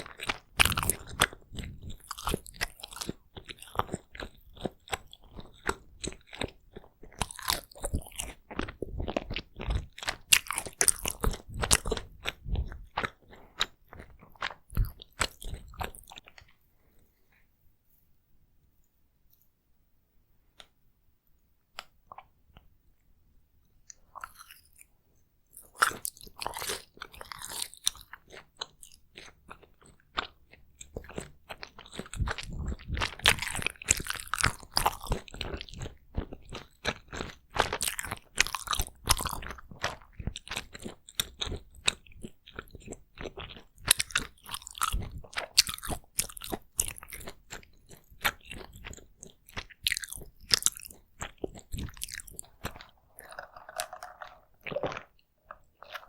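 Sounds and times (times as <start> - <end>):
close biting and chewing: 0.0 - 16.6, 23.9 - 24.9, 25.5 - 56.0.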